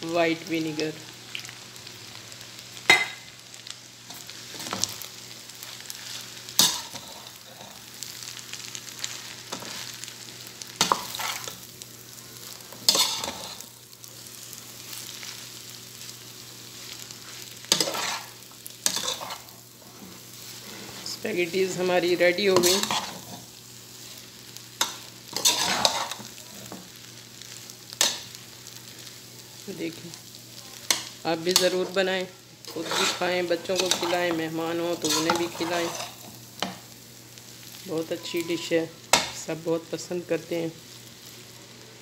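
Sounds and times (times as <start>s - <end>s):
food sizzling in a pot: 0.0s - 42.0s.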